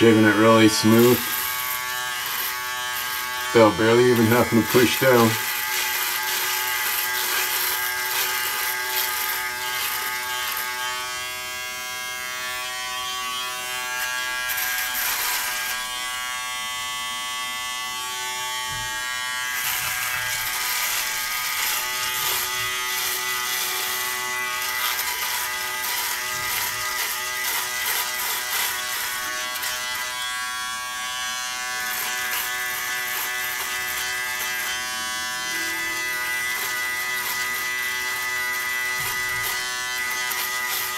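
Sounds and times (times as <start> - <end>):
shaver rasping against stubble: 0.0 - 16.9, 17.9 - 40.9
electric shaver motor hum: 0.0 - 40.9.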